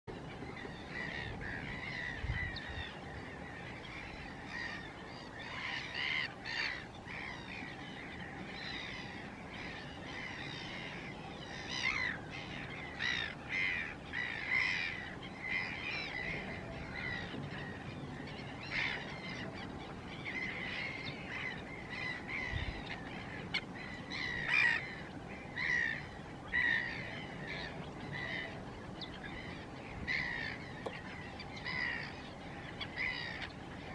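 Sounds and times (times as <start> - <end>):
flamingos and gulls calling: 0.1 - 33.9.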